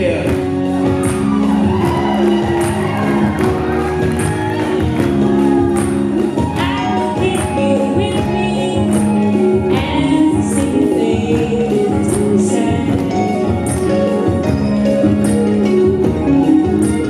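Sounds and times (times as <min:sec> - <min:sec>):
keyboards: 0:00.0 - 0:17.0
upright bass: 0:00.0 - 0:17.0.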